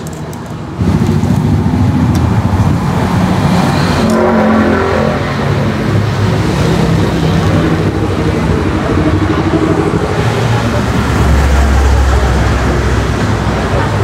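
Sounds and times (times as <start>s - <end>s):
heavy engine rumble: 0.0s - 14.0s
road traffic rumble: 0.0s - 14.0s.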